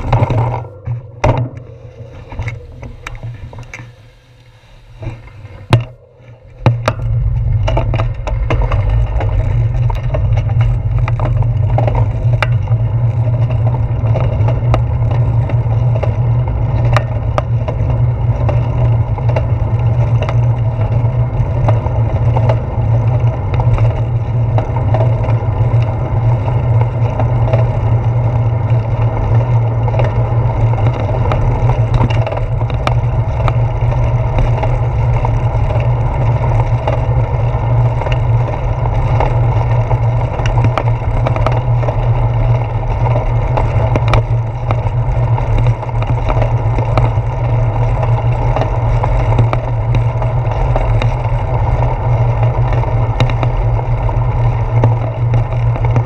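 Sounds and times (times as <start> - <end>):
wind and road rumble: 0.0 - 56.0
small clicks and rattles: 5.0 - 56.0.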